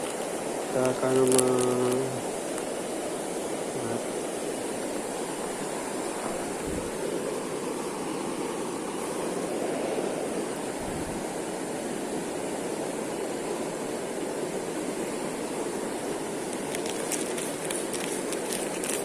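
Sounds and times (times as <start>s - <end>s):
high insect drone: 0.0s - 19.0s
river water flowing: 0.0s - 19.0s.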